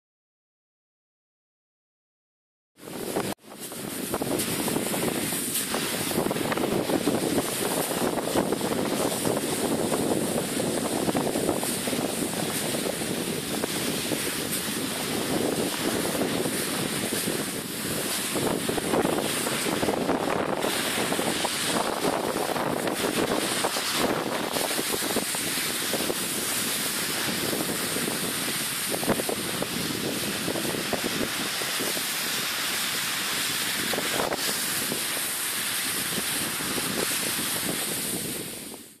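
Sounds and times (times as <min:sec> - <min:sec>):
wind on microphone: 0:02.8 - 0:39.0.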